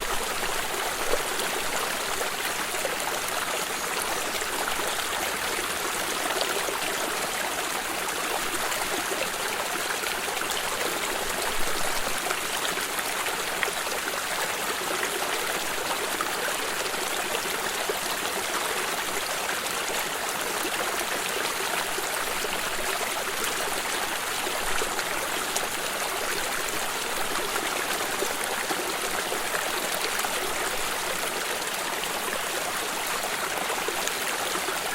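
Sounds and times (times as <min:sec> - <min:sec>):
stream flowing over stones: 0:00.0 - 0:34.9.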